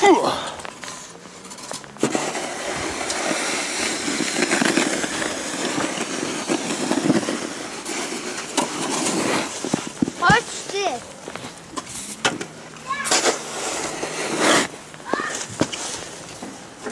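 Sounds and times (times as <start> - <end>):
snow shovel scraping pavement: 0.0 - 16.9.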